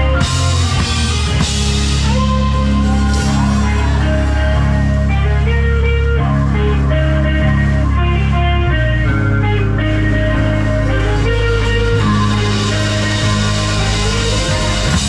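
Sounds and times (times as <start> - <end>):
electric guitar melodic notes: 0.0 - 15.0
live emo band playing: 0.0 - 15.0.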